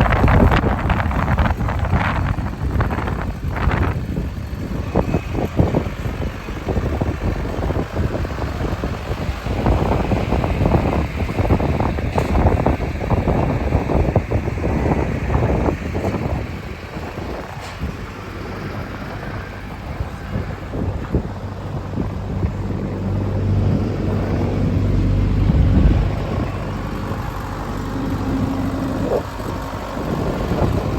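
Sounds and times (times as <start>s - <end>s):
diesel engine rumbling: 0.0s - 30.9s.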